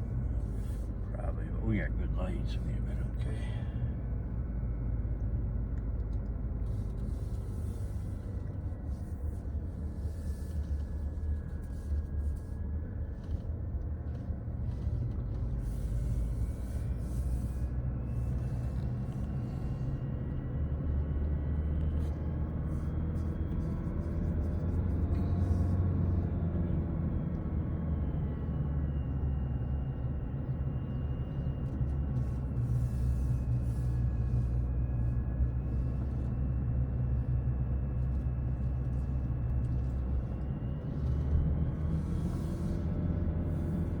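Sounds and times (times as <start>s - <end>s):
car engine and road noise: 0.0s - 44.0s
faint rising and falling whine: 0.0s - 44.0s.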